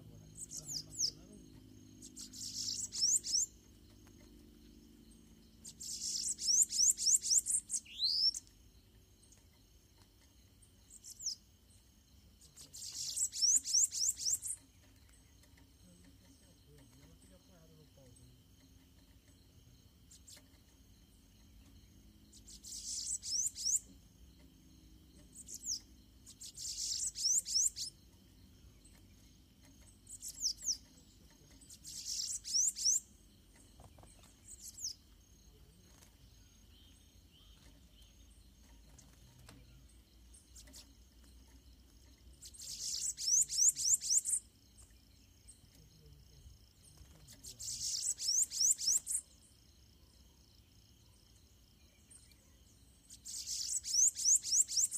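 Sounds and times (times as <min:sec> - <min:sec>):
birds singing high wheezy trills: 0:00.0 - 0:54.9.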